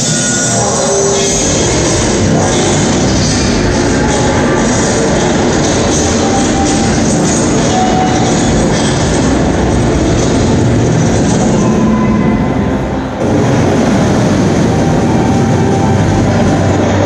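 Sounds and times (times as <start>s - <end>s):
loud soundtrack over sound system: 0.0s - 17.0s.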